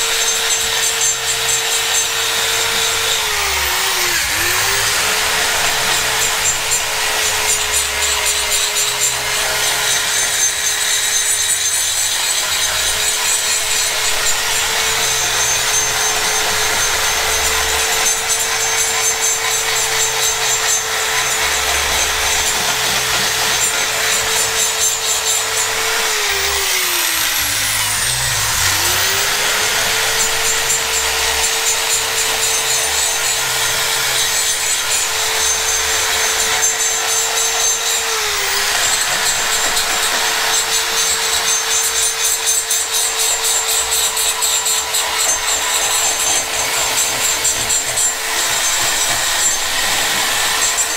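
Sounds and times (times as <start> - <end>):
die grinder whining and grinding: 0.0 - 50.9.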